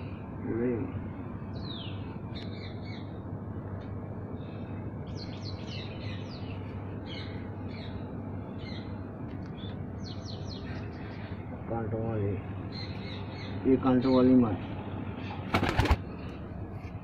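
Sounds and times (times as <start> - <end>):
small birds chirping: 0.0 - 3.3, 4.2 - 17.0
steady low hum: 0.0 - 17.0.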